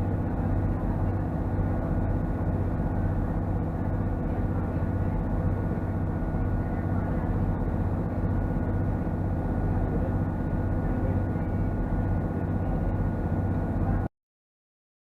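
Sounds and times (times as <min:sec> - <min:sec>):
boat engine running: 0:00.0 - 0:14.1.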